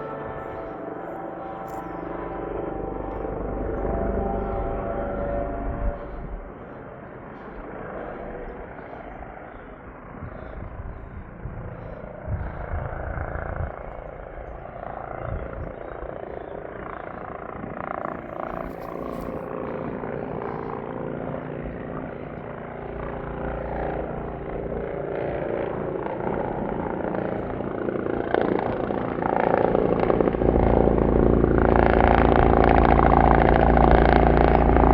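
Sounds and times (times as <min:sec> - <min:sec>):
helicopter rotor and turbine noise: 0:00.0 - 0:34.9.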